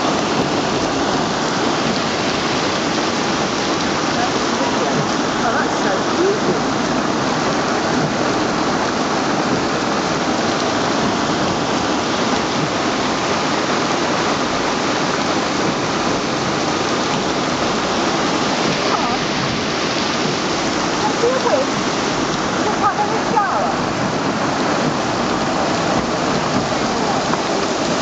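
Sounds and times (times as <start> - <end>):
floodwater rushing over street: 0.0 - 28.0
heavy rain pouring: 0.0 - 28.0.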